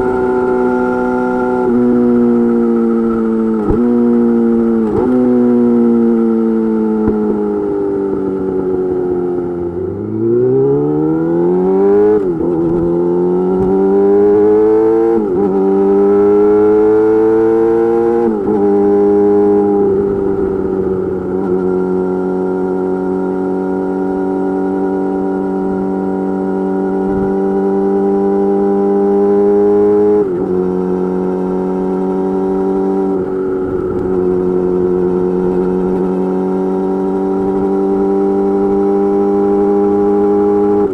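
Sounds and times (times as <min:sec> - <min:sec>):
motorcycle accelerating through gears: 0:00.0 - 0:40.9.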